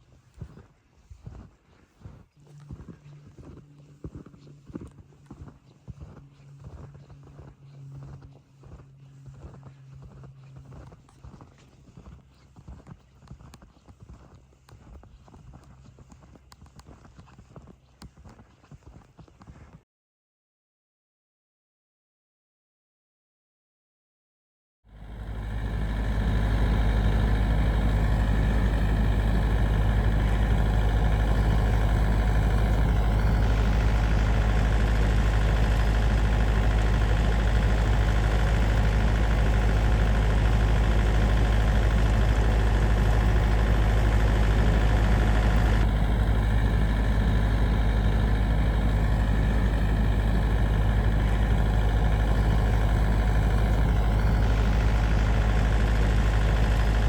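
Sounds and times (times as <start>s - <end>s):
snowblower engine running: 2.3s - 17.0s, 24.9s - 57.0s.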